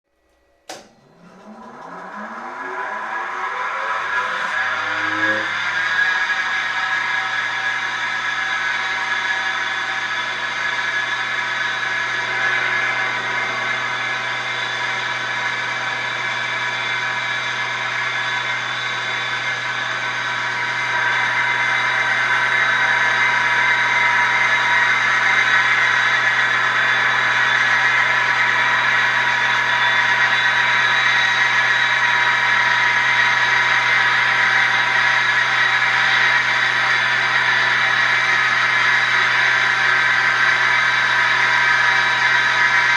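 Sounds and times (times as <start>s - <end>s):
lathe machine whine with hiss: 1.0s - 42.9s.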